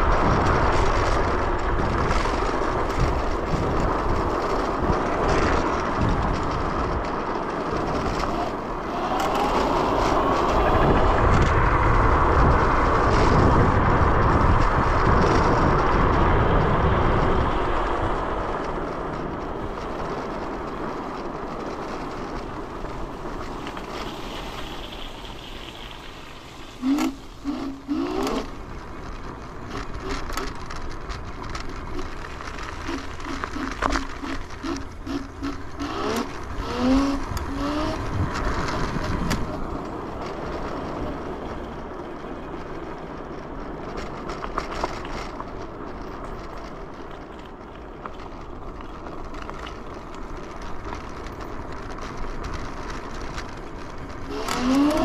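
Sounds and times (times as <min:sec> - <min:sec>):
electric scooter motor hum: 0:00.0 - 0:55.0
wind and road noise: 0:00.0 - 0:55.0.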